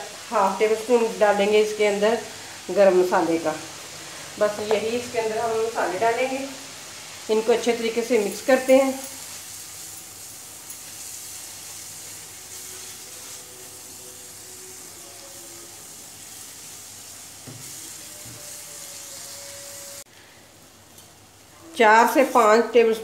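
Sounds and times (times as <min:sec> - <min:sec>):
masala sizzling in a frying pan: 0:00.0 - 0:23.0.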